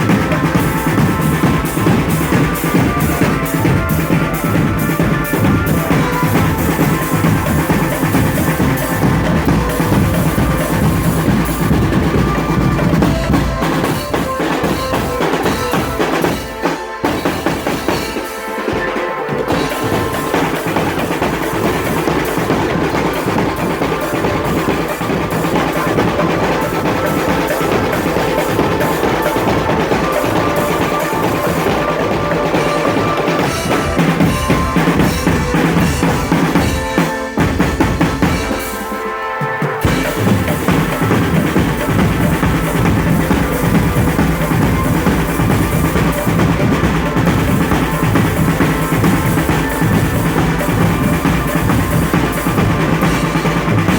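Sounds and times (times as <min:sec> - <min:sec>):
marching drum band playing: 0:00.0 - 0:53.9.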